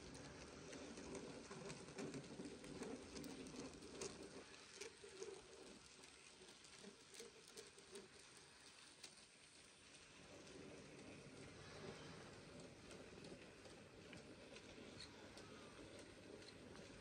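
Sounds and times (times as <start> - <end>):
model train wagons clicking: 0.0 - 17.0.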